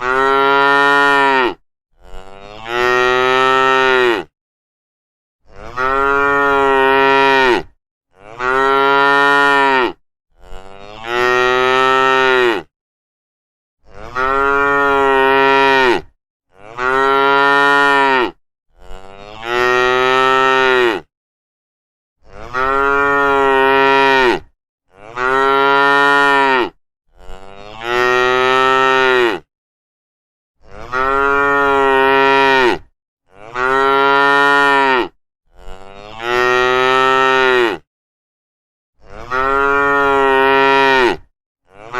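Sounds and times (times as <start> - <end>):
cows mooing: 0.0 - 4.3, 5.5 - 12.7, 13.9 - 21.1, 22.3 - 29.5, 30.7 - 37.8, 39.1 - 41.9.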